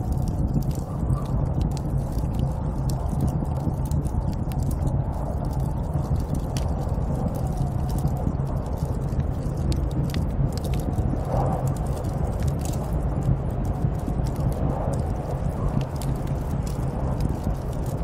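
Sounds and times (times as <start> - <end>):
low rumble of snowstorm wind: 0.0 - 18.0
small crackling clicks: 0.0 - 18.0.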